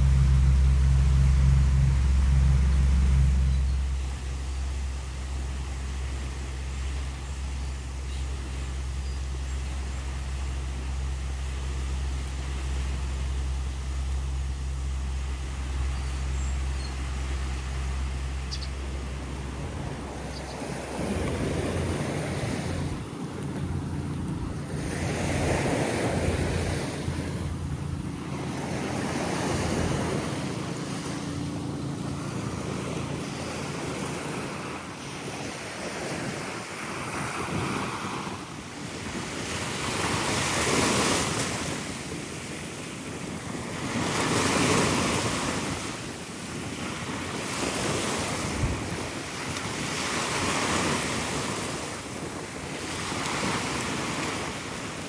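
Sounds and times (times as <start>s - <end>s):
sea waves washing: 0.0s - 55.0s
wind buffeting microphone: 0.0s - 55.0s.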